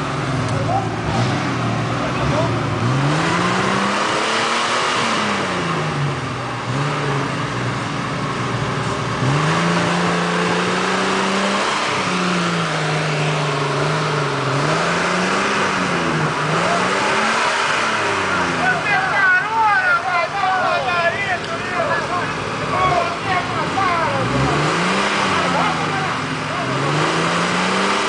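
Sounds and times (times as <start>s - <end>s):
jeep engine revving under load: 0.0s - 28.0s.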